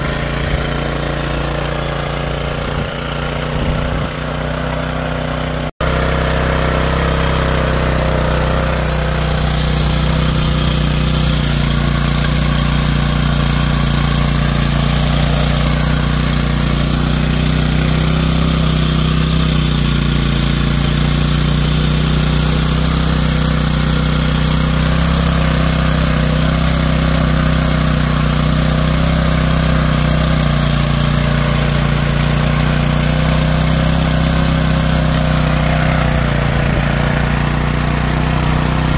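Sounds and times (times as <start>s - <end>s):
small tiller engine running: 0.0s - 38.9s
tines churning dry soil: 0.0s - 38.9s.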